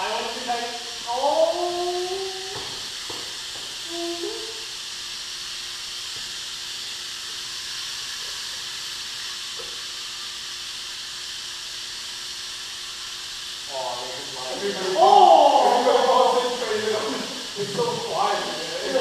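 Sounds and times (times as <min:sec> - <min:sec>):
faint steady hum: 0:00.0 - 0:19.0
steady hiss: 0:00.0 - 0:19.0.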